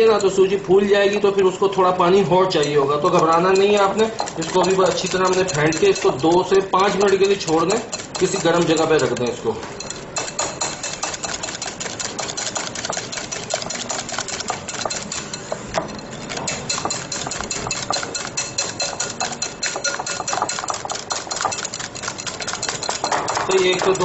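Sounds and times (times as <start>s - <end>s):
whisk clicking against glass bowl: 0.0s - 24.0s.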